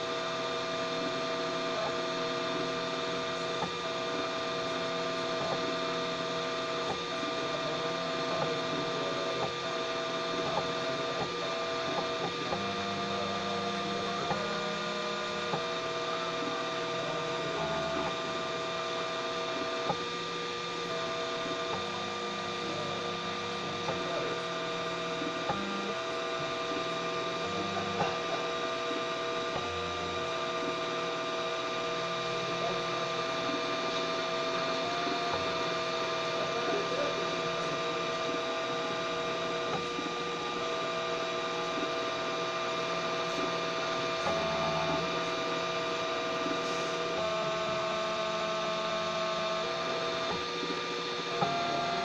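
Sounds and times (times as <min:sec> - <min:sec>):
stepper motors whining: 0:00.0 - 0:52.0.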